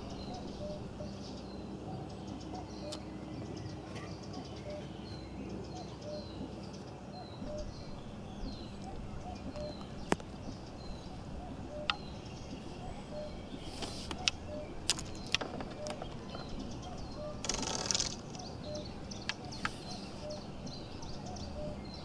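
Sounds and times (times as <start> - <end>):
low background hum: 0.0 - 22.0
wild birds chirping: 0.0 - 22.0.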